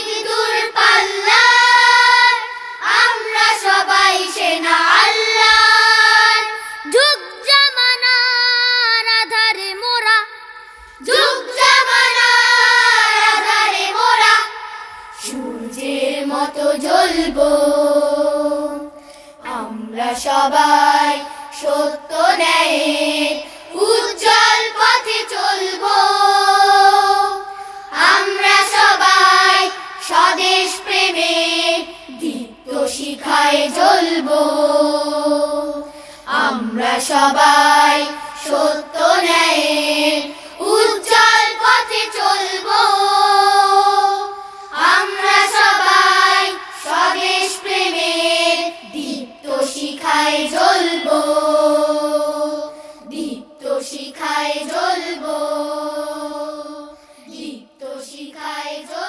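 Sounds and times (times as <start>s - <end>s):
children's chorus singing: 0.0s - 8.1s, 10.7s - 59.0s.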